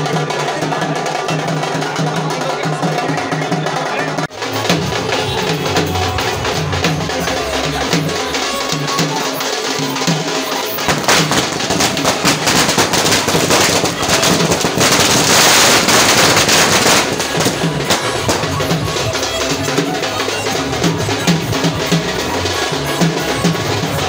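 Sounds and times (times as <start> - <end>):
drum-heavy music: 0.0 - 24.0
firecrackers crackling: 3.8 - 24.0.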